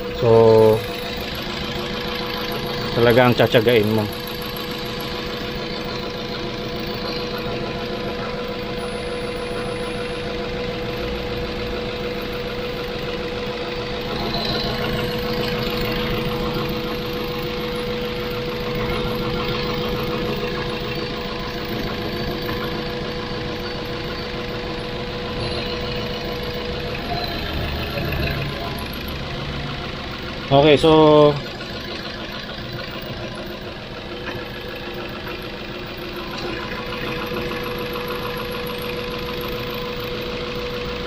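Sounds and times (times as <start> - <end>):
car engine idling: 0.0 - 41.0
constant high tone: 0.0 - 41.0.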